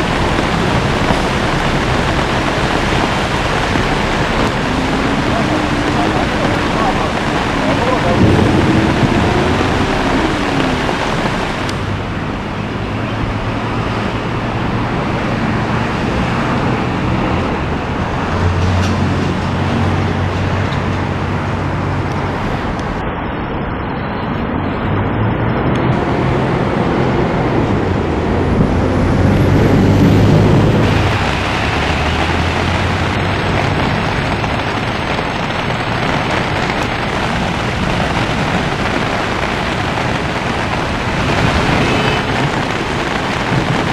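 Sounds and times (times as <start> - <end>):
heavy rain and floodwater rushing: 0.0 - 43.9
vehicle engines humming: 0.0 - 43.9.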